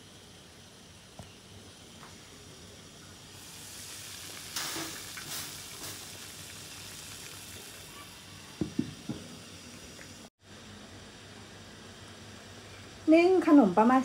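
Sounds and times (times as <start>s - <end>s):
water boiling hard in a pot: 0.0s - 12.4s.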